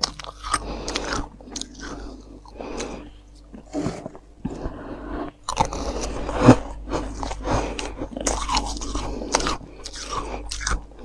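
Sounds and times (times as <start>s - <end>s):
frost being chewed: 0.0s - 11.0s.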